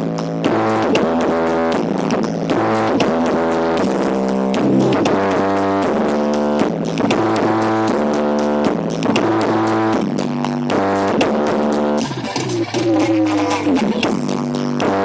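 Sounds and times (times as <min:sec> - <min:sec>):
busy drum beat: 0:00.0 - 0:15.0
deep bass line: 0:00.0 - 0:15.0
loud music over sound system: 0:00.0 - 0:15.0.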